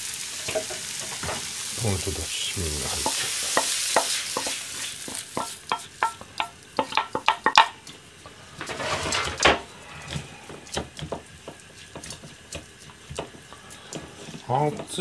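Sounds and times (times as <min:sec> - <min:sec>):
food mixed by hand in metal bowl: 0:00.4 - 0:15.0
spatula scraping a frying pan: 0:03.0 - 0:15.0.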